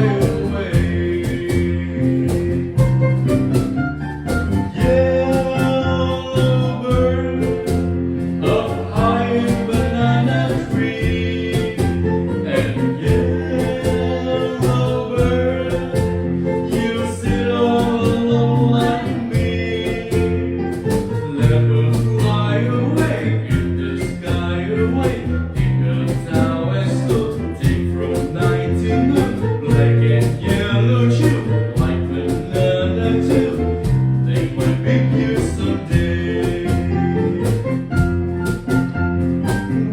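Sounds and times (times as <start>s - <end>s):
person singing: 0.0s - 3.2s, 4.7s - 37.4s.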